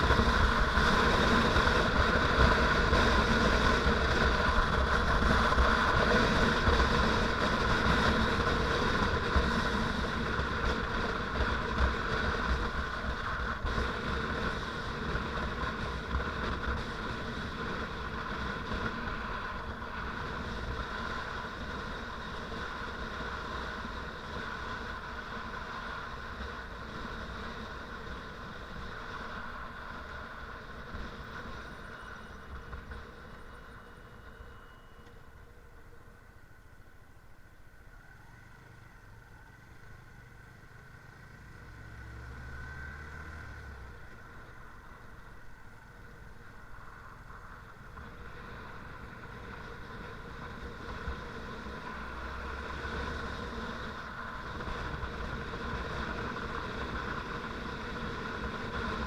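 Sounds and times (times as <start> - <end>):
motorcycle engine running: 0.0 - 36.4, 37.8 - 59.0.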